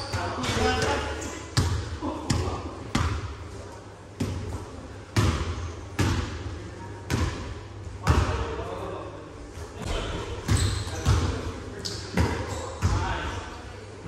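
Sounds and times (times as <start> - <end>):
basketball bouncing in a hall: 0.0 - 3.4, 4.1 - 8.6, 9.8 - 13.4.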